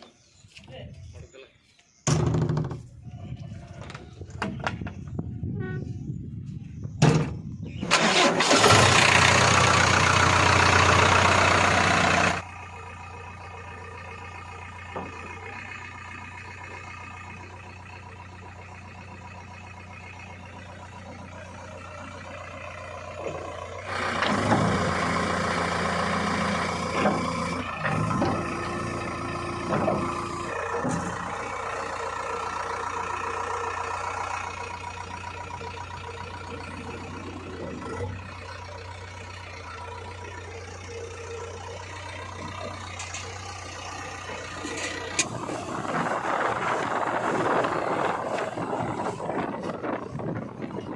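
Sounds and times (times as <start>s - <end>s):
diesel engine starting: 2.4s - 50.9s
diesel engine idling: 2.9s - 50.9s
diesel engine revving: 6.8s - 50.9s.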